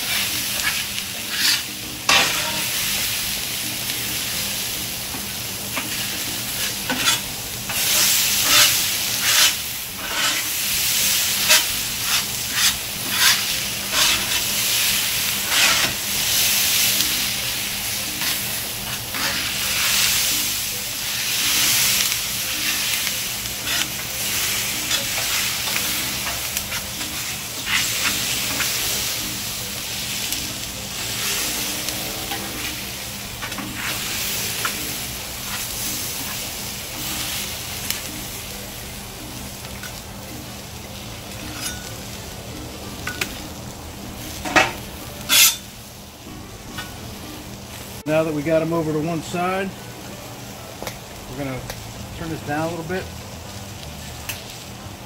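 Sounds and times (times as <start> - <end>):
potatoes sizzling on a griddle: 0.0 - 55.0.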